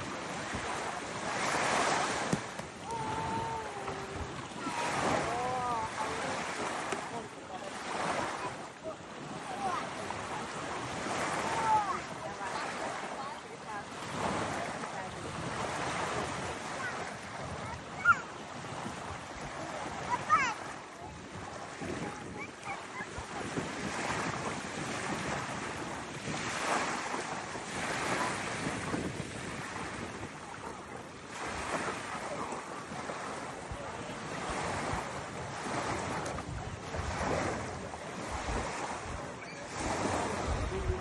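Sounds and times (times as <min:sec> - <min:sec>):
sea waves washing in: 0:00.0 - 0:41.0
wind buffeting microphone: 0:00.0 - 0:41.0.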